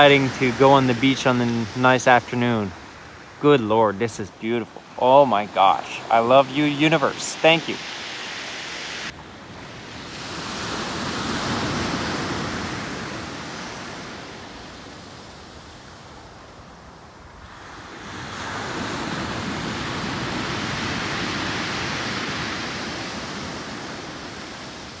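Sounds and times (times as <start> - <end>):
ocean waves washing onto beach: 0.0 - 25.0.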